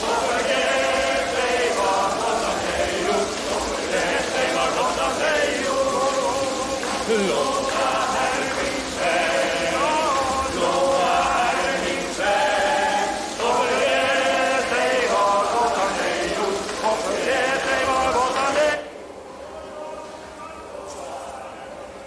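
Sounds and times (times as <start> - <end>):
group of voices chanting: 0.0 - 18.9.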